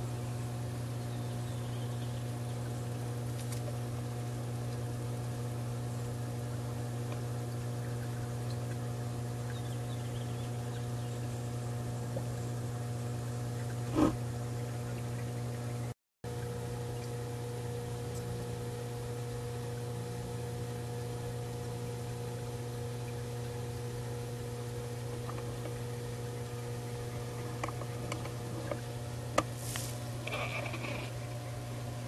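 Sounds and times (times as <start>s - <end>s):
pool cleaner motor humming: 0.0s - 32.0s.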